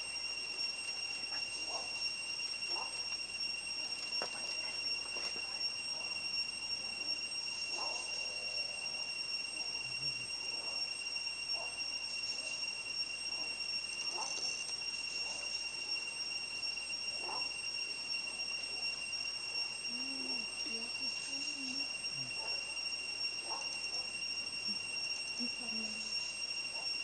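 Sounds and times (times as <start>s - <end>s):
steady high-pitched whine: 0.0s - 27.0s.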